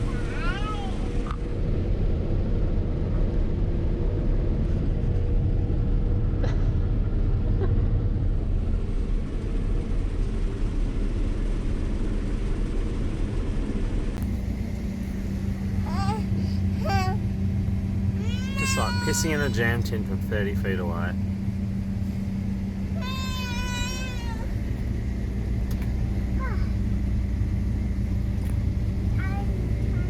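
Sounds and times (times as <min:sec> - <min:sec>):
combine harvester engine rumble: 0:00.0 - 0:30.0
steady hum: 0:01.1 - 0:30.0.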